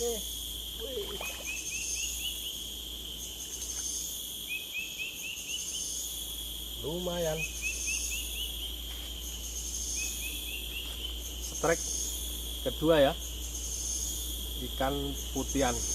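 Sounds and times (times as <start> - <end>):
insects shrilling: 0.0 - 15.9.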